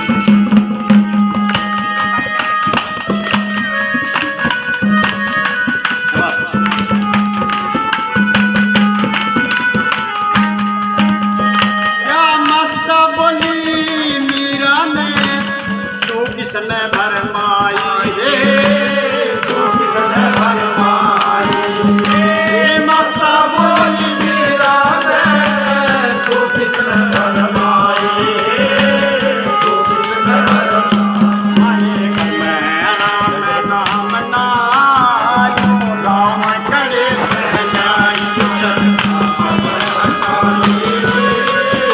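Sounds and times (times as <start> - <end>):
folk devotional melody: 0.0 - 41.9
hand drum rhythm: 0.0 - 41.9.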